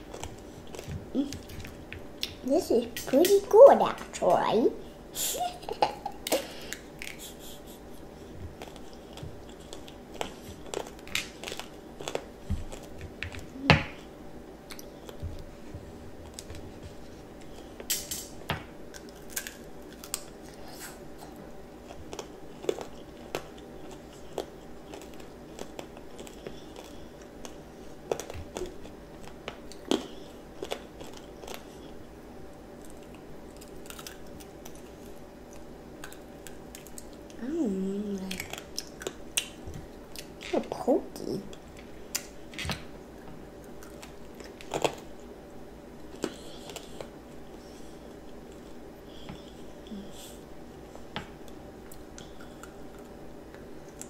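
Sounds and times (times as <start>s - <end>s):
child chewing crunchy candy: 0.0s - 2.5s, 5.6s - 40.8s, 41.5s - 54.0s.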